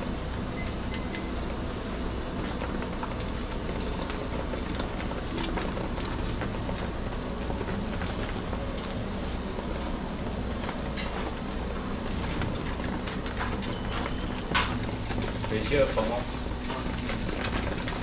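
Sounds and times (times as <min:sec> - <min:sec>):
steady low hum: 0:00.0 - 0:18.0
sharp crackles and clicks: 0:02.3 - 0:18.0.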